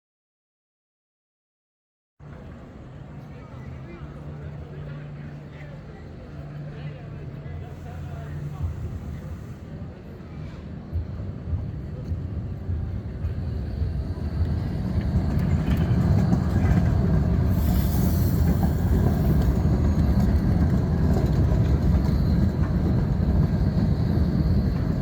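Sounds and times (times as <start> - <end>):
tram rumbling along track: 2.2 - 25.0.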